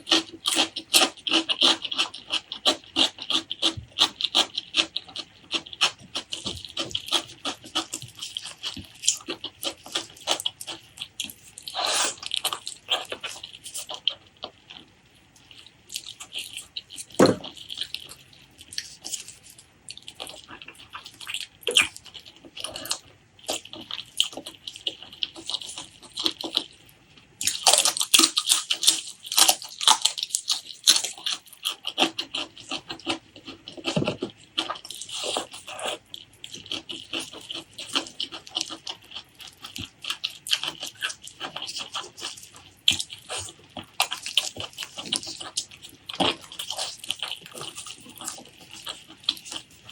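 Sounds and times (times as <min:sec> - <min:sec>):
wet chewing and lip-smacking: 0:00.0 - 0:49.9.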